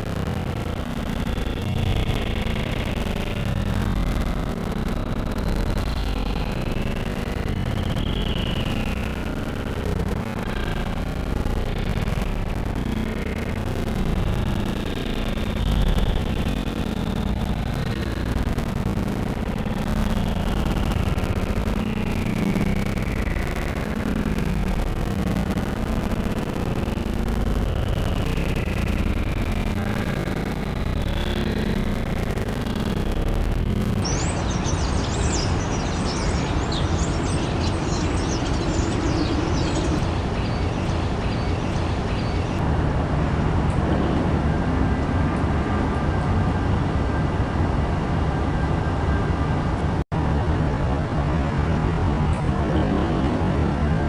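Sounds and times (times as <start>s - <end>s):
city traffic rumble: 0.0s - 54.0s.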